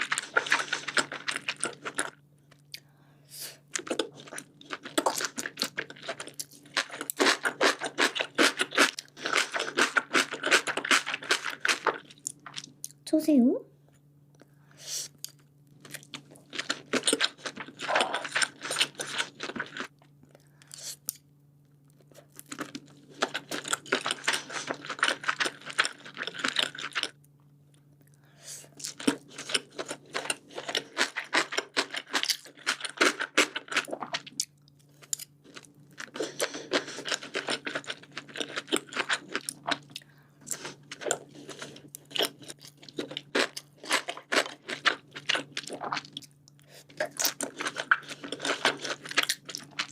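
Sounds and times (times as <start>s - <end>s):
chewing with wet mouth sounds: 0.0s - 2.9s, 3.7s - 13.0s, 15.1s - 21.2s, 21.9s - 27.2s, 28.0s - 49.9s.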